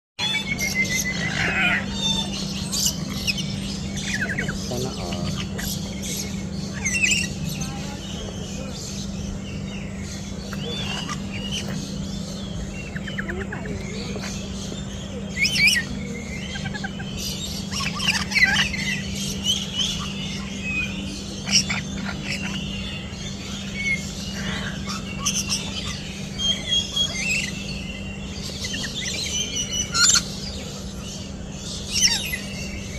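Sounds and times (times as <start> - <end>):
small birds chirping: 0.2 - 32.9
steady low hum: 0.2 - 32.9.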